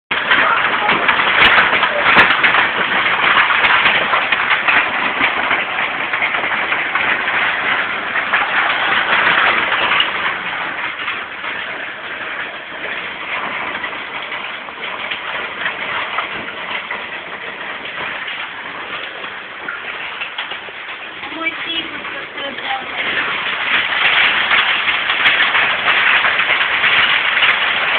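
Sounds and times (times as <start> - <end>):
hail pattering: 0.1 - 27.9.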